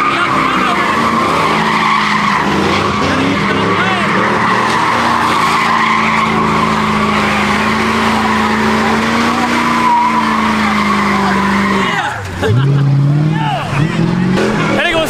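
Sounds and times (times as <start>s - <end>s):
car engine at high revs: 0.0s - 15.0s
tyres squealing on asphalt: 0.0s - 15.0s.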